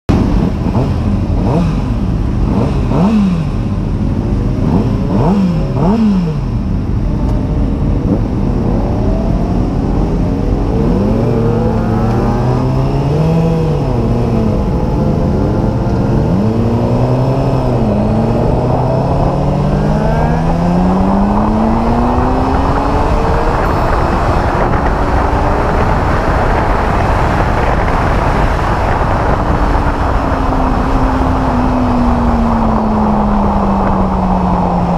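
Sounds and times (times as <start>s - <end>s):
motorcycle engine revving: 0.1s - 34.9s
rising rush of noise: 3.3s - 34.9s.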